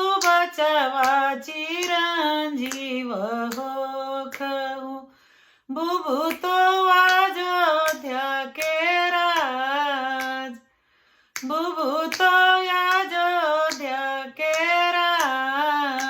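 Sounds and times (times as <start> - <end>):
woman singing unaccompanied: 0.0 - 5.1, 5.7 - 10.6, 11.4 - 16.0.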